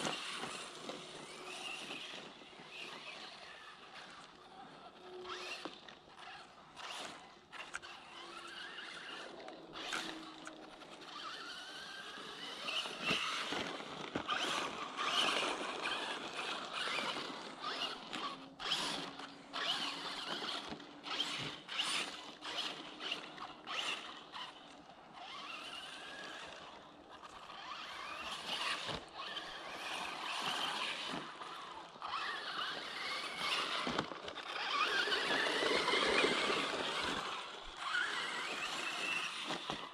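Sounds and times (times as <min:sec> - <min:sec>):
rc truck motor whine: 0:00.0 - 0:39.9.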